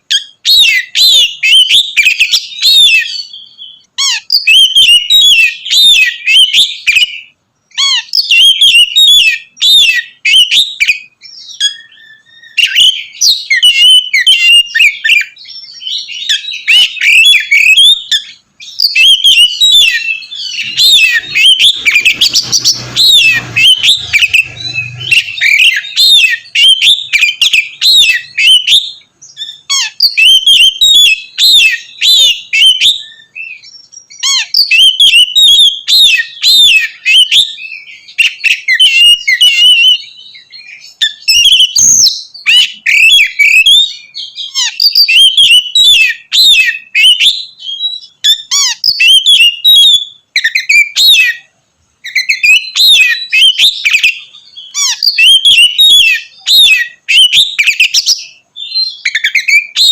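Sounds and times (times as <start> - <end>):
songbird singing rapid phrases: 0.0 - 59.9.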